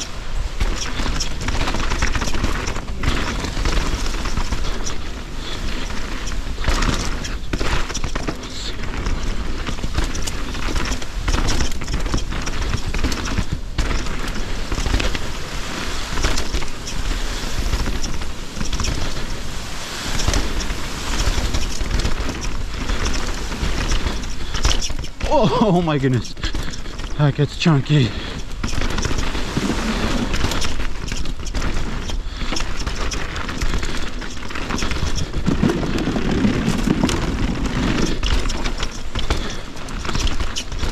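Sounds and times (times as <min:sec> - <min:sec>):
wind rumble on microphone: 0:00.0 - 0:25.3, 0:28.2 - 0:40.9
bike rattling and knocking: 0:00.0 - 0:40.9
bike tyres rolling over rock: 0:00.0 - 0:40.9.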